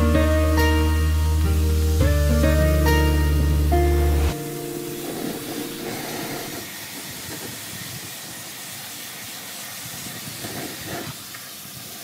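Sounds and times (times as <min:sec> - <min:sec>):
hose spray hissing: 0:00.0 - 0:12.0.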